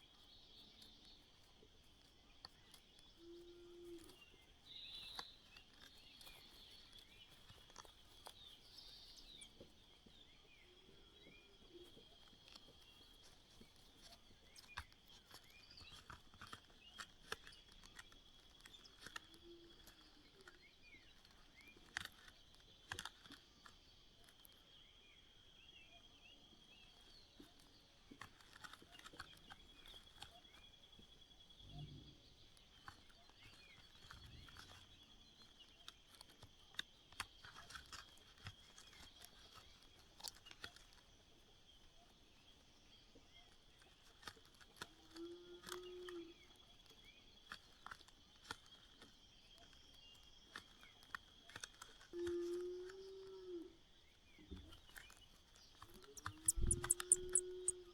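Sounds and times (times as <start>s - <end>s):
small clicks and rustles: 0.0s - 57.9s.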